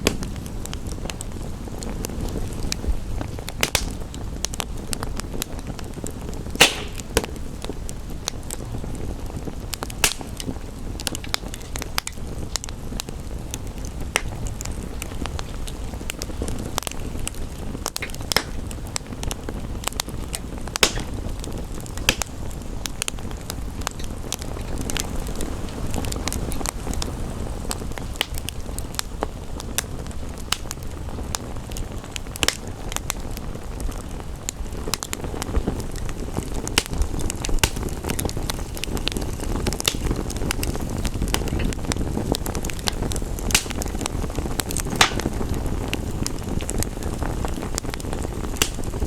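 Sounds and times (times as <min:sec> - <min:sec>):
rain: 0:00.0 - 0:49.0
wood fire crackling: 0:00.0 - 0:49.0.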